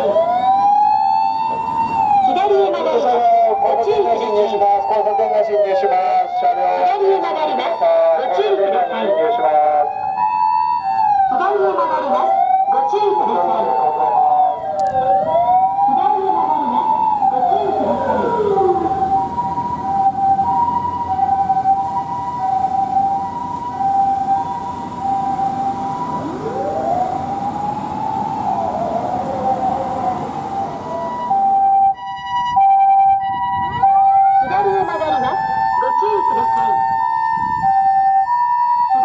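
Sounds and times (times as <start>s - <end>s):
rising and falling siren wail: 0.0s - 39.0s
two-tone electronic siren: 0.0s - 39.0s.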